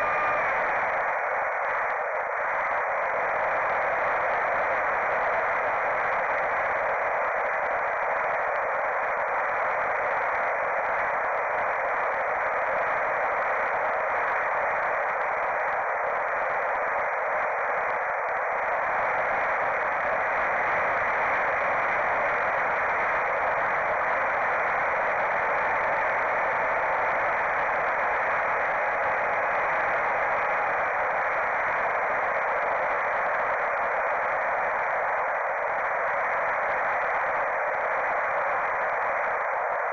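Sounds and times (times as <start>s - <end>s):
static and airflow hiss: 0.0s - 39.9s.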